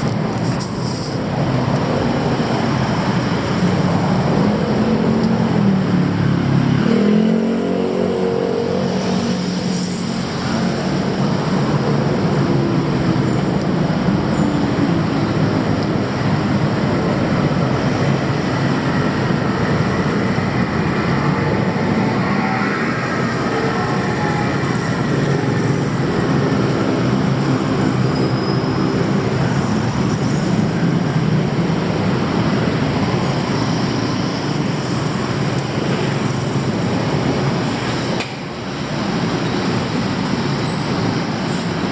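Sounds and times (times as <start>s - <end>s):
passing vehicles: 0.0s - 41.9s.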